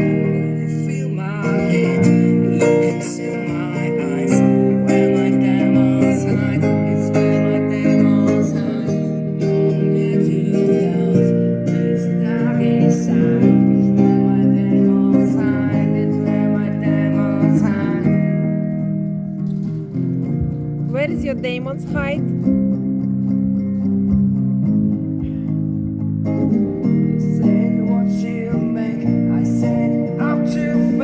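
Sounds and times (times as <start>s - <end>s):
electric guitar strumming chords: 0.0s - 31.0s.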